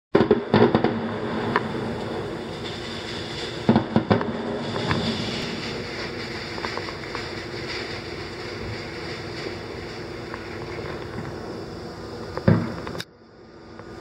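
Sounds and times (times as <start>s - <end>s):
firework shells bursting: 0.2s - 13.1s.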